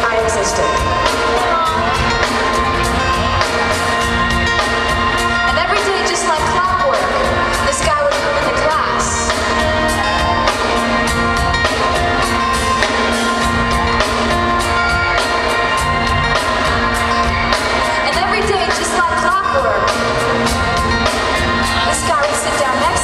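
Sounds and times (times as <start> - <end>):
pop band playing: 0.0 - 23.0
steady drum beat: 0.0 - 23.0.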